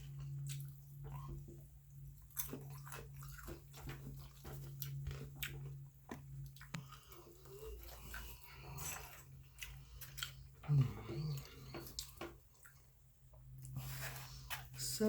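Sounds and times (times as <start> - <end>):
person chewing food: 0.0 - 14.8
steady low hum: 0.0 - 15.0.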